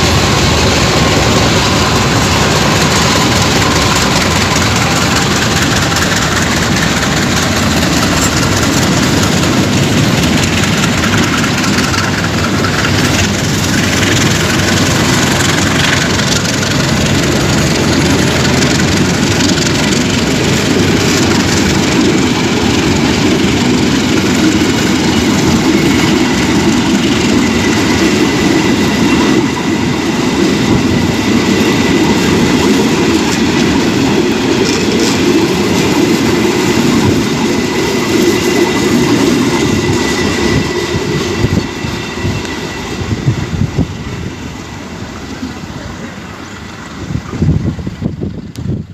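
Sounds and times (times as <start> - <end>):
train rumbling past: 0.0 - 48.9.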